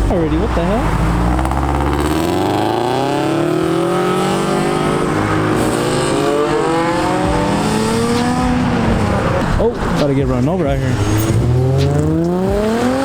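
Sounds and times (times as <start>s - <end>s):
car engines revving and accelerating: 0.0s - 13.0s.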